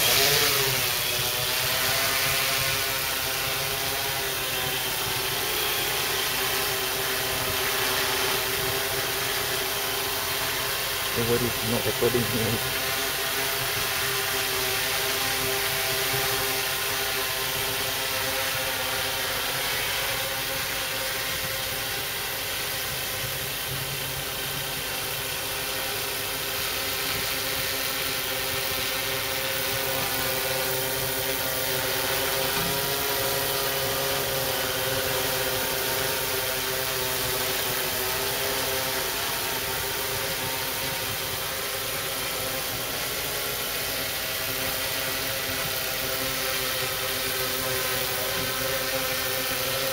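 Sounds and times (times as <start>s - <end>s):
quadcopter propellers buzzing: 0.0s - 49.9s.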